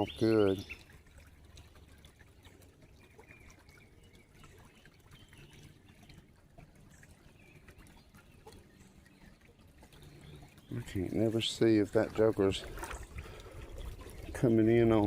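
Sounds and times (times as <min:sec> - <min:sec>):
creek water trickling: 0:00.0 - 0:15.0.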